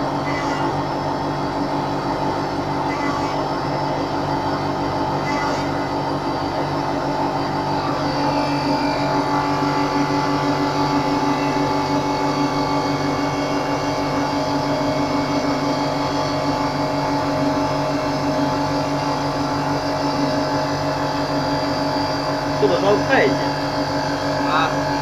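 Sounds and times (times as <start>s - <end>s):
wood lathe motor hum: 0.0s - 25.0s
lathe cutting wood: 2.0s - 25.0s.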